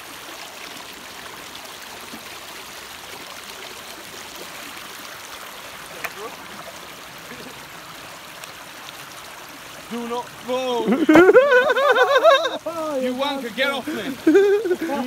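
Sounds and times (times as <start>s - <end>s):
stream babbling over rocks: 0.0s - 15.0s.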